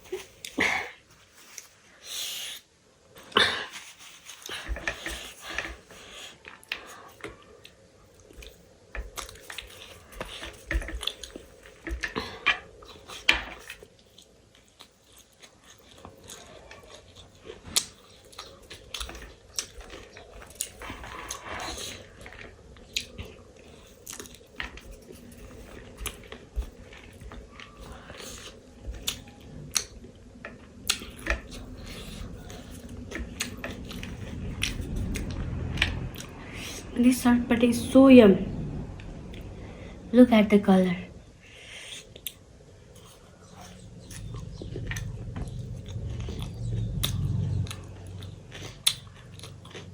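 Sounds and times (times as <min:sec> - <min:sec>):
person chewing and crunching food: 0:00.0 - 0:37.0, 0:41.4 - 0:49.9.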